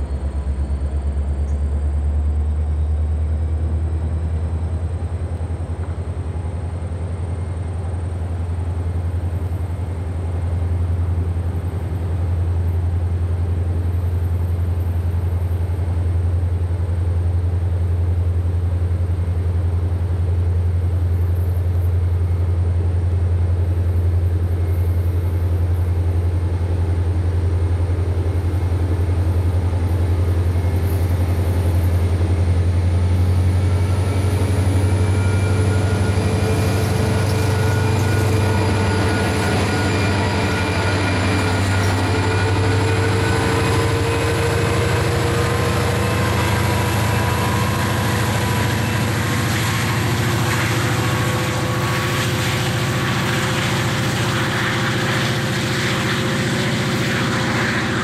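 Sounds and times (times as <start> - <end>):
diesel locomotive engine drone: 0.0 - 58.0
rail and wheel noise: 0.0 - 58.0.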